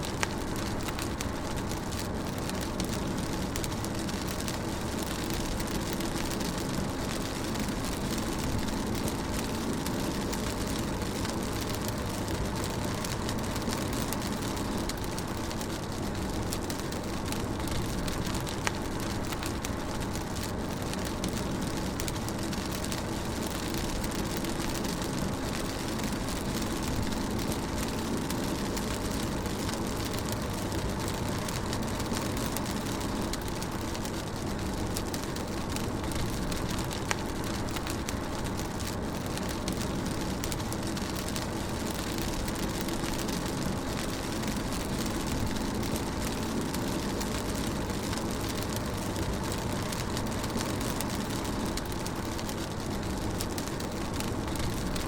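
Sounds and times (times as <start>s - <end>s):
rain on a car: 0.0s - 55.0s.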